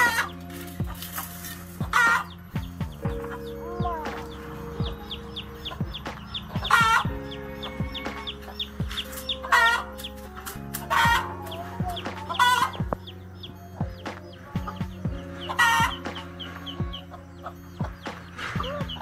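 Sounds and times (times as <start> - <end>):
background music: 0.0 - 19.0
hen squawking: 0.0 - 19.0.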